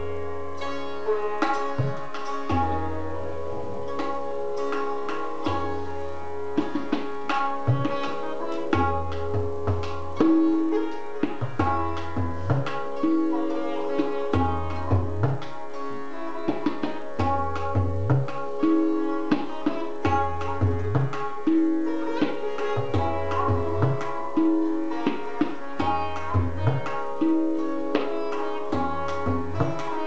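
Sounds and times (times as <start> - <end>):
plucked sitar melody: 0.0 - 30.0
tabla strokes: 0.0 - 30.0.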